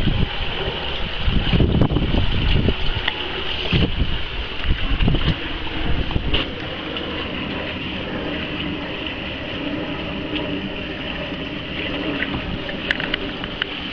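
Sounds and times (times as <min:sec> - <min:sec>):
sailboat rushing through water: 0:00.0 - 0:13.9
wind buffeting microphone: 0:00.0 - 0:13.9.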